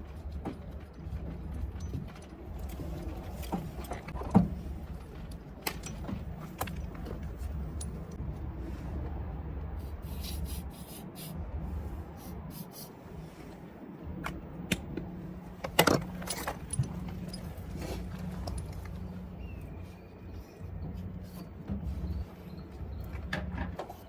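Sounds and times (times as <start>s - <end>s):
hand rubbing and scraping parts: 0.0s - 24.0s
steady low hum: 0.0s - 24.0s.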